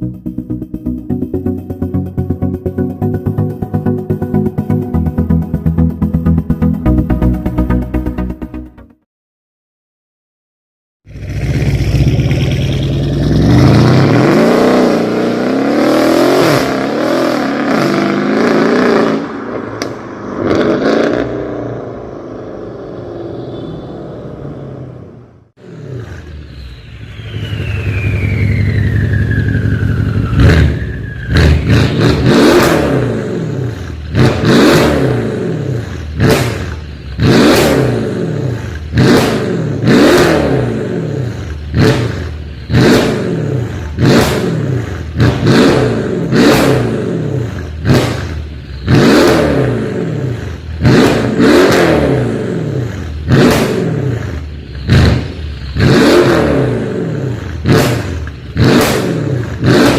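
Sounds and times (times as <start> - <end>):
car engine revving: 11.1 - 59.9.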